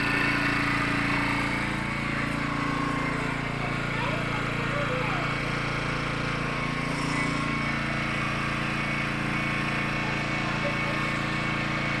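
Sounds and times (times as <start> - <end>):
generator engine droning: 0.0 - 12.0.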